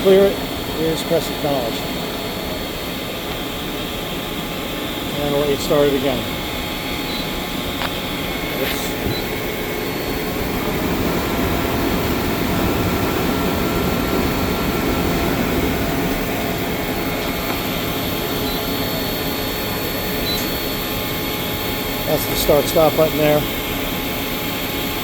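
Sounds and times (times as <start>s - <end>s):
machine blower rushing air: 0.0s - 25.0s.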